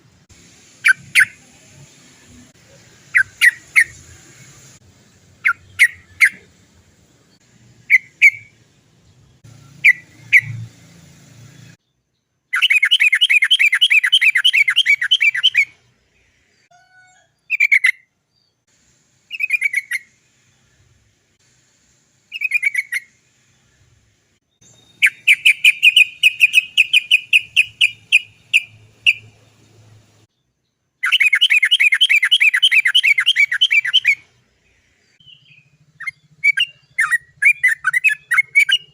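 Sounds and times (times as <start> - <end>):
bird chirping and rapid notes: 0.1 - 16.6, 19.3 - 21.1, 22.2 - 30.3, 31.0 - 38.9.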